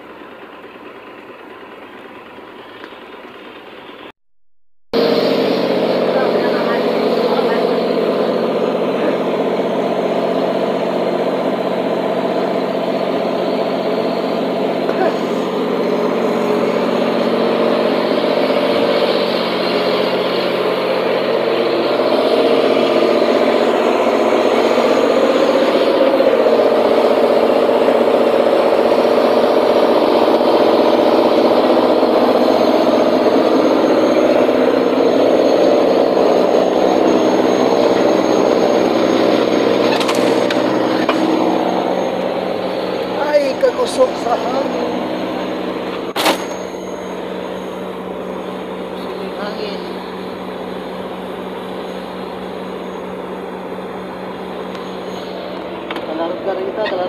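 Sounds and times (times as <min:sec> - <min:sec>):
ship engines humming: 0:00.0 - 0:04.1, 0:05.0 - 0:57.0.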